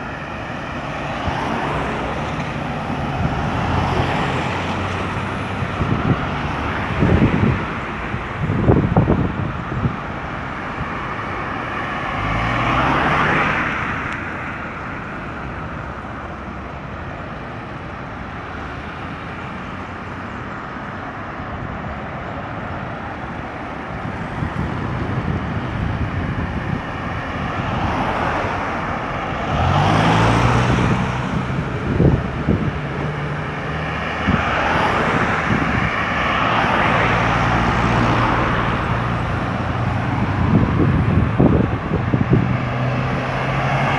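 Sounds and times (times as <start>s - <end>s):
road traffic rumble: 0.0s - 43.9s.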